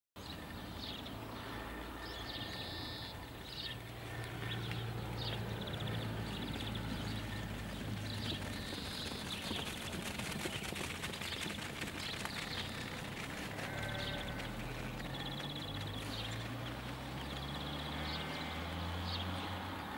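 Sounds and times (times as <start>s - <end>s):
small birds chirping: 0.2s - 19.9s
sheep hooves on tarmac: 0.8s - 19.8s.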